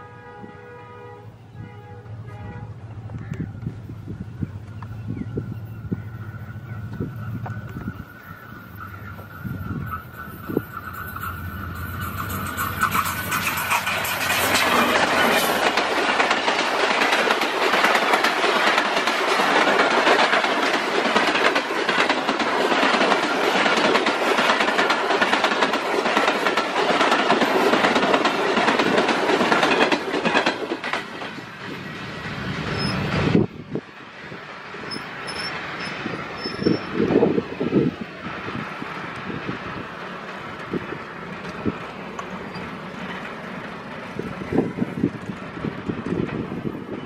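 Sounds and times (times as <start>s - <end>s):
diesel train passing: 0.0s - 47.0s
wheels clattering over rail joints: 6.4s - 47.0s.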